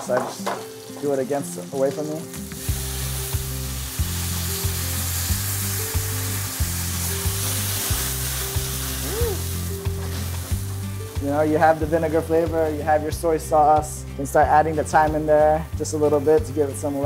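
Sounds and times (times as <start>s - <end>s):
oil sizzling in a pan: 0.0s - 17.0s.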